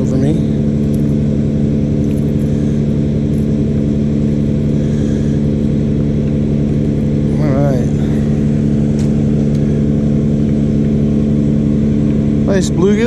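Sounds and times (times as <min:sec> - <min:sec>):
low motor-like drone: 0:00.0 - 0:13.0.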